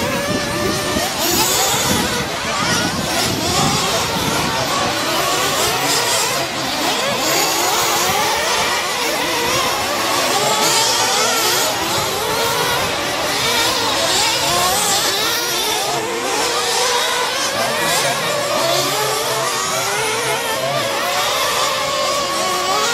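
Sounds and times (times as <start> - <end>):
rc truck engines whining: 0.0 - 22.9.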